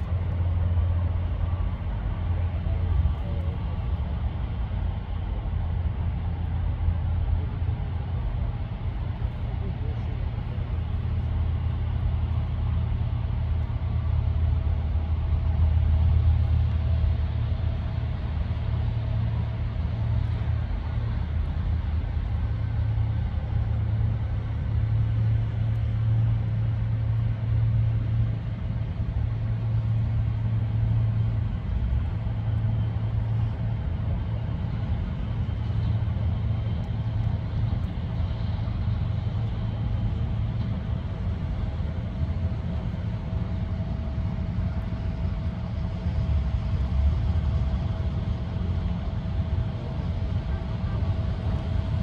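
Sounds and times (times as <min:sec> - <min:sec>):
steady low rumble: 0:00.0 - 0:52.0.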